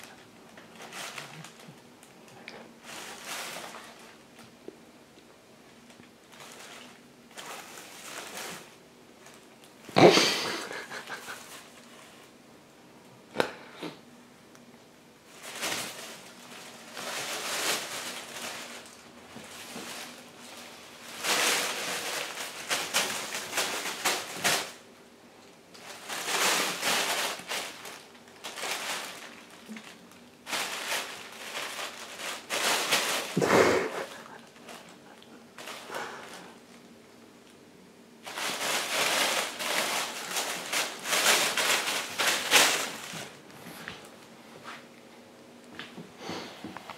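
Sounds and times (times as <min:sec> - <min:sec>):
plastic bag crinkling: 0:00.0 - 0:04.6, 0:05.8 - 0:12.3, 0:15.2 - 0:37.0, 0:38.2 - 0:44.2.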